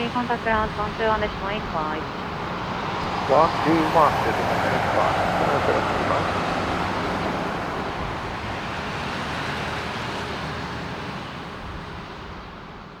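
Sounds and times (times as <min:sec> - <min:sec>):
jet engine rushing: 0:00.0 - 0:10.4.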